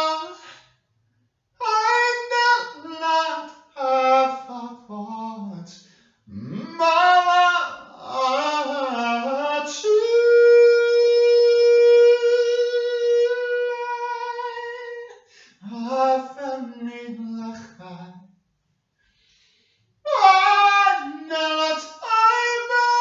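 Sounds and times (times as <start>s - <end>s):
person singing without words: 0.0s - 0.6s, 1.6s - 18.2s, 20.1s - 23.0s.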